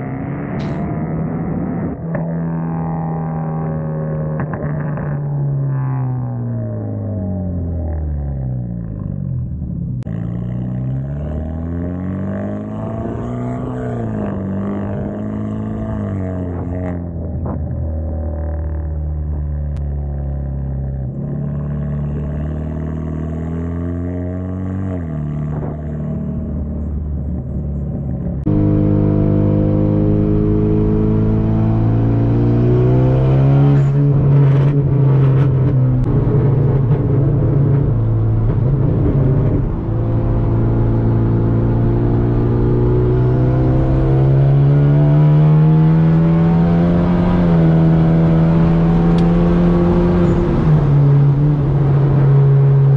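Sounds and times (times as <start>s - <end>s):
car engine and exhaust droning: 0.0s - 52.9s.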